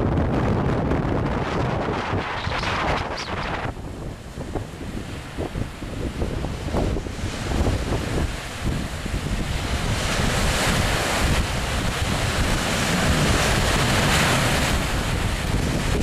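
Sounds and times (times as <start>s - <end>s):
rushing choppy water: 0.0s - 16.0s
wind buffeting microphone: 0.0s - 16.0s.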